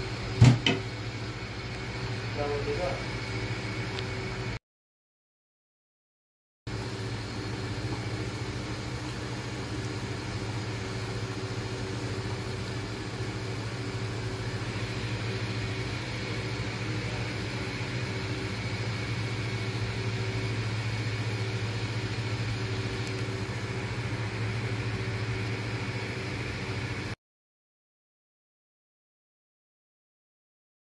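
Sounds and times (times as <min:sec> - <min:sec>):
kitchen appliance humming: 0:00.0 - 0:04.6, 0:06.7 - 0:27.2.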